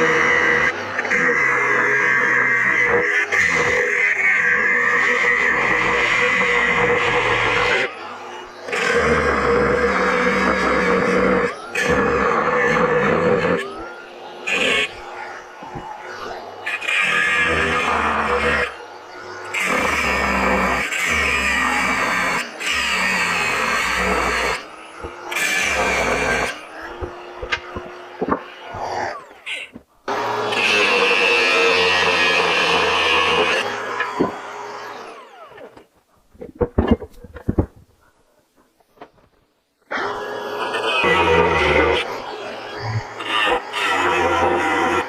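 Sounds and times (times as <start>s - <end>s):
angle grinder cutting steel: 0.0s - 35.9s, 39.9s - 45.0s
grinder winding down whine: 0.0s - 35.9s, 39.9s - 45.0s.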